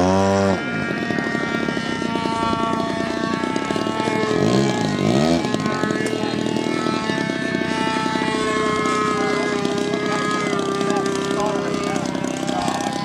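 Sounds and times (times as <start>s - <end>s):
model airplane engine droning: 0.0s - 13.0s.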